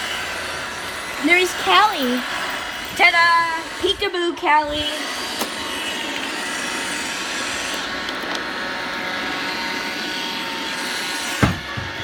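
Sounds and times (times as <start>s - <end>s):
robot vacuum motor whirring: 0.0s - 12.0s.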